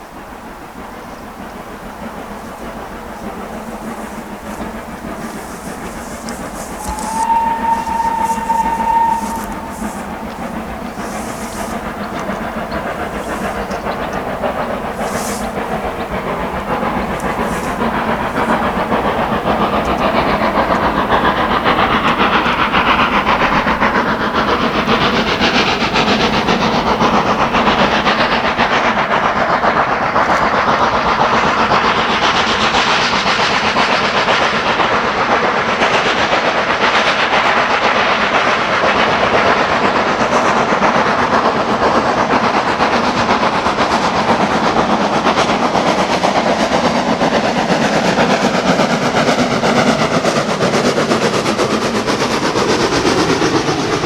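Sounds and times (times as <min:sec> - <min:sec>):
steam train passing: 0:00.0 - 0:54.0.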